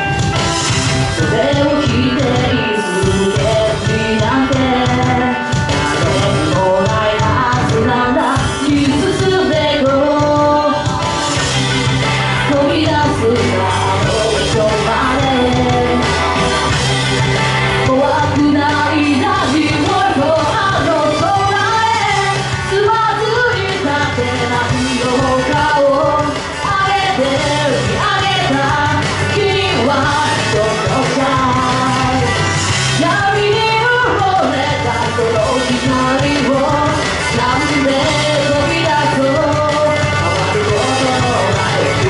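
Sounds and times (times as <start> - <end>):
backing music with bass line: 0.0 - 42.0
woman singing into a microphone: 1.1 - 11.4, 12.4 - 16.3, 17.8 - 42.0.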